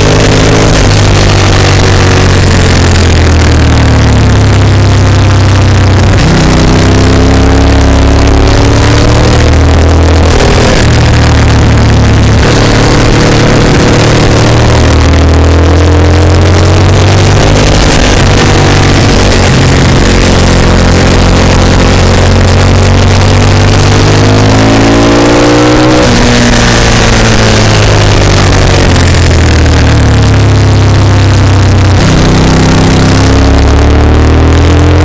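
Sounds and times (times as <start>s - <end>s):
motorcycle engine accelerating: 0.0s - 35.0s
wind noise on microphone: 0.0s - 35.0s.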